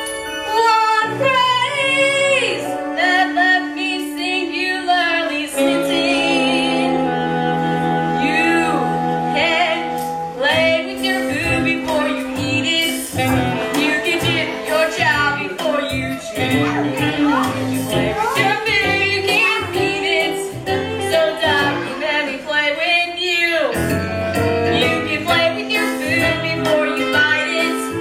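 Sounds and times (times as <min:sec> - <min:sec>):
instrumental backing track: 0:00.0 - 0:28.0
person singing with vibrato: 0:00.0 - 0:28.0.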